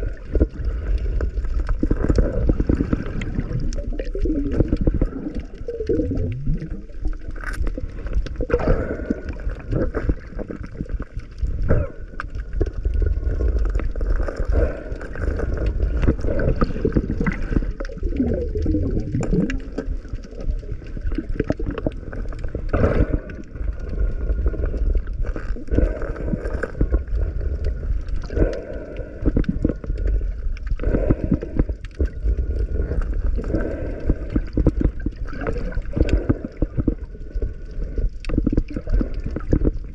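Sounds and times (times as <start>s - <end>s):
underwater gurgling and bubbling: 0.0s - 39.9s.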